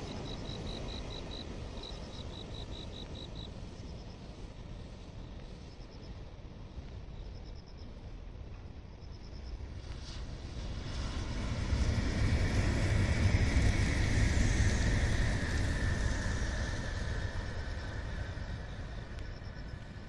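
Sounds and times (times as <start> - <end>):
high-speed train rushing roar: 0.0 - 6.9, 8.0 - 20.0
high whine of train: 0.0 - 20.0.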